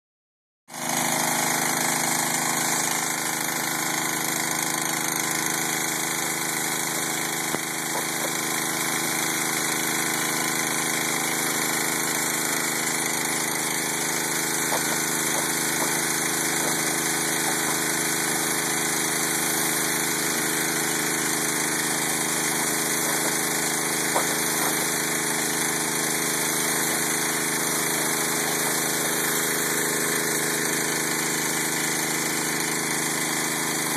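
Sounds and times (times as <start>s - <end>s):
small engine running steadily: 0.7s - 33.9s.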